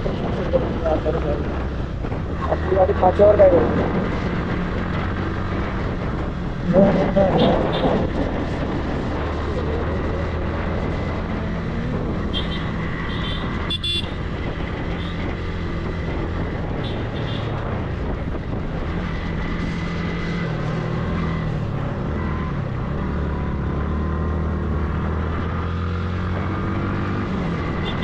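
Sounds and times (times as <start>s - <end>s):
rushing wind noise: 0.0s - 28.0s.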